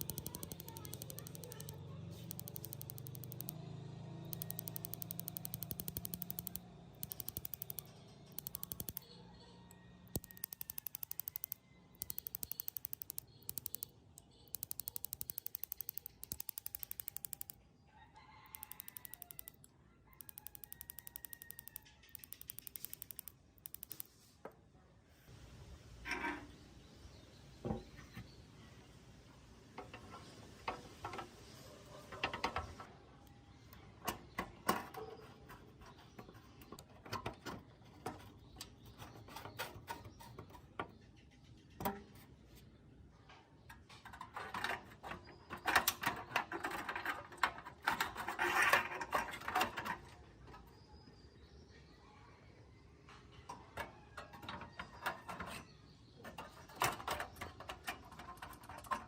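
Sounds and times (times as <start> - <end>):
tools clicking and scraping: 0.0 - 17.6, 18.3 - 24.5, 29.8 - 42.7, 43.3 - 51.0, 53.2 - 59.0.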